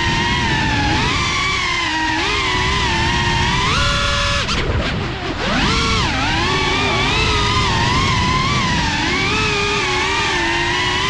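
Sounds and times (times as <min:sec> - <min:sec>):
drone motors whining: 0:00.0 - 0:11.0
wind rumble: 0:00.0 - 0:11.0.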